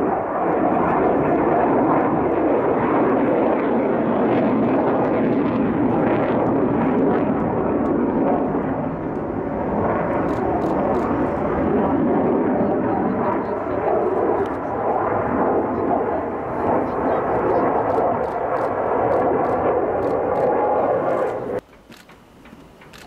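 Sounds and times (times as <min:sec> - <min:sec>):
jet engine rumbling rush: 0:00.0 - 0:23.0.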